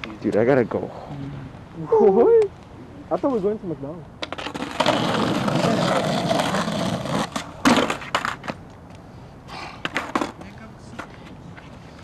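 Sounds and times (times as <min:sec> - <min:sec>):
skateboard clacking on ground: 0:00.0 - 0:01.0, 0:01.6 - 0:12.0
skateboard rolling: 0:00.0 - 0:12.0.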